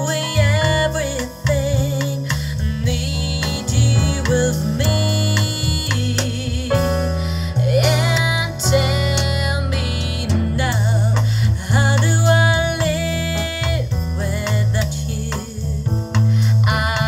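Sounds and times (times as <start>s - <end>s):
woman singing with vibrato: 0.0s - 15.8s, 16.6s - 17.0s
sustained bass line: 0.0s - 17.0s.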